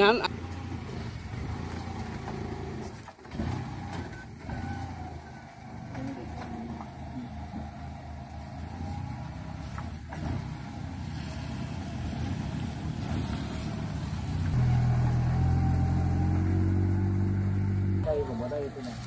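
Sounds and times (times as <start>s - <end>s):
old pickup engine running: 0.0s - 19.0s.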